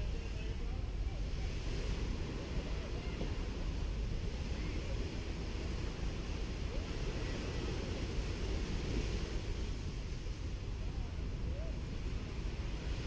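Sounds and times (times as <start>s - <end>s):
sea waves washing on beach: 0.0s - 13.0s
wind buffeting microphone: 0.0s - 13.0s.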